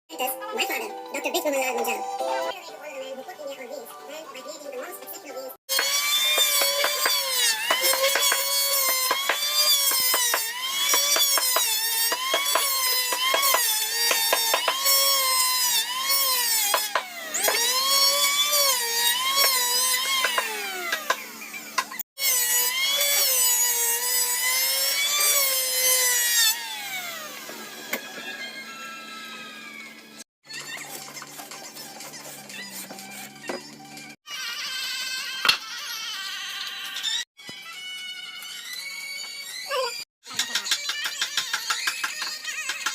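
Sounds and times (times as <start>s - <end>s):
power tool cutting wood: 5.7s - 42.9s.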